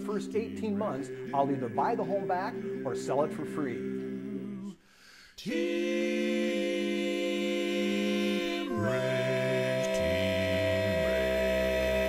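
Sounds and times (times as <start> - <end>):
male vocal quartet singing: 0.0 - 12.0.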